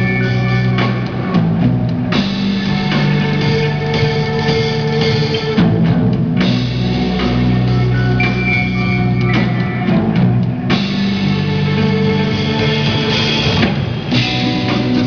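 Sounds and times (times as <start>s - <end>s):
drum kit: 0.0s - 15.0s
electric guitars: 0.0s - 15.0s
keyboard: 0.0s - 15.0s.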